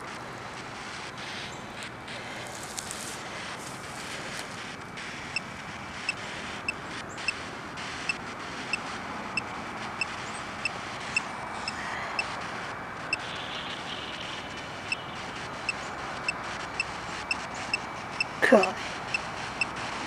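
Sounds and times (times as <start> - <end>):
highway traffic hum: 0.0 - 20.0.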